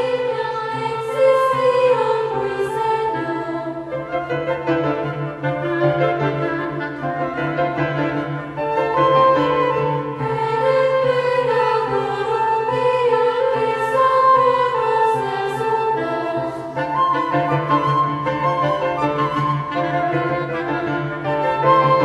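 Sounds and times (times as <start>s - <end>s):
flute: 3.9s - 22.0s.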